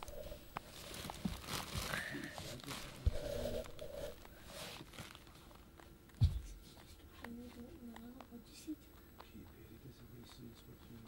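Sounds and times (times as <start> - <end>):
rabbit nibbling seeds: 0.0 - 11.0.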